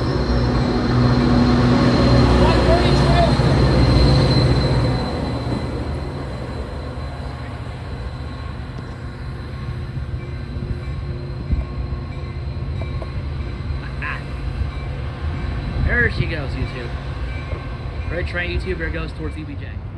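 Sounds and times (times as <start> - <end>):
train rumbling on rails: 0.0 - 19.9.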